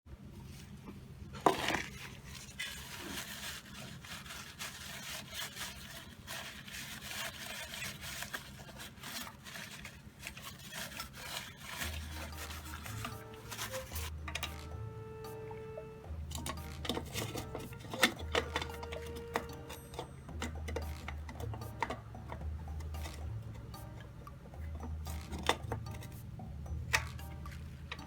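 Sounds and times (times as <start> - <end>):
rubbing and scraping: 0.4 - 15.4, 16.1 - 28.0.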